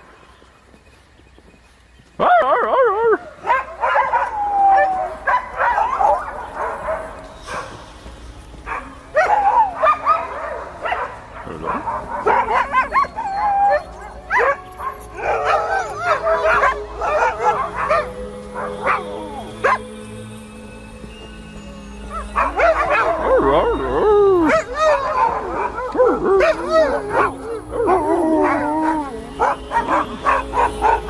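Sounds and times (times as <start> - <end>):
dogs barking and yelping: 2.2 - 19.9, 22.1 - 31.0.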